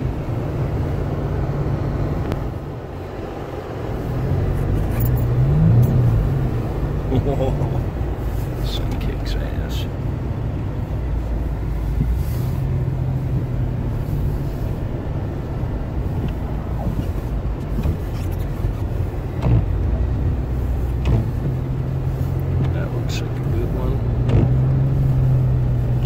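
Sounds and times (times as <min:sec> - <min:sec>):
car engine hum and road noise: 0:00.0 - 0:26.0.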